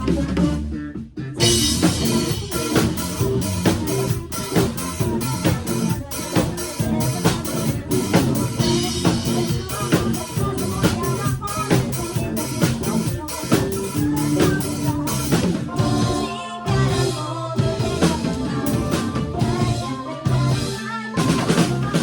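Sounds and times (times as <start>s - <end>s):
drum kit beat: 0.0s - 22.0s
rock band playing: 0.0s - 22.0s.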